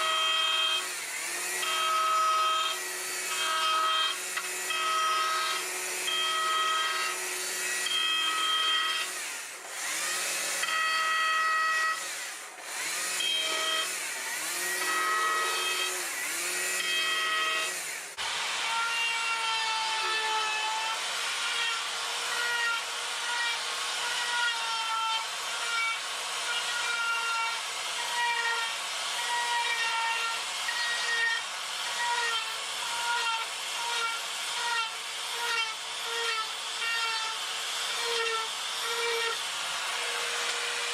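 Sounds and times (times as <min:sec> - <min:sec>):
chainsaw cutting wood: 0:00.0 - 0:40.9
power tool grinding wood: 0:00.0 - 0:40.9.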